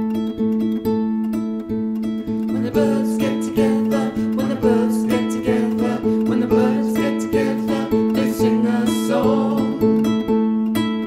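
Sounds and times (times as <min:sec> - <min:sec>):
harp-lute plucked: 0:00.0 - 0:11.0.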